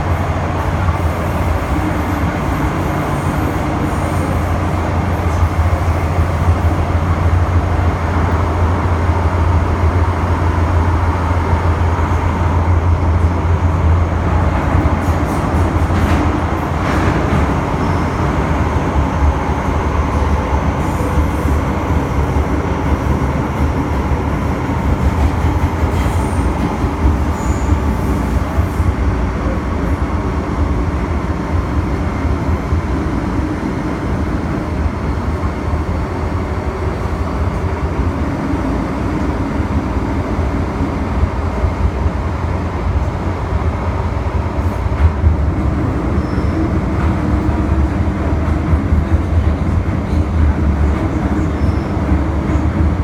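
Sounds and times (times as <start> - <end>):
train wheels rumbling in tunnel: 0.0 - 53.0.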